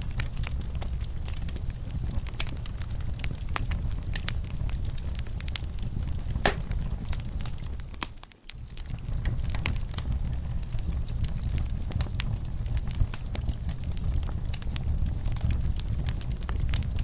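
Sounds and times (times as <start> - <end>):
low rumble of flame: 0.0 - 17.0
wood fire crackling: 0.0 - 17.0.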